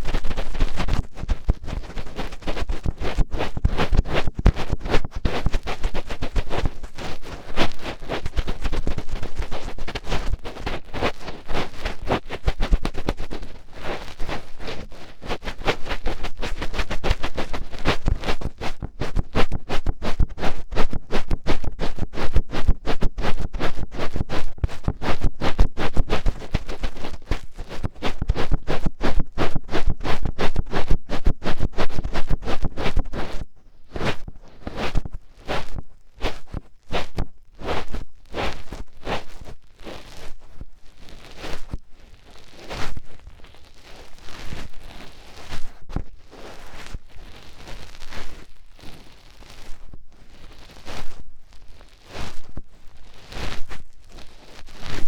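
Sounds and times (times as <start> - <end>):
fingertip scratching inside ear: 0.0 - 55.0.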